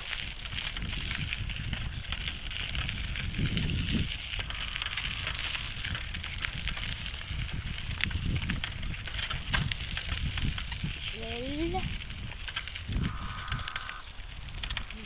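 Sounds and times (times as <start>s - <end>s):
crackly handling noise: 0.0s - 15.0s
wind rumbling on microphone: 0.0s - 15.0s.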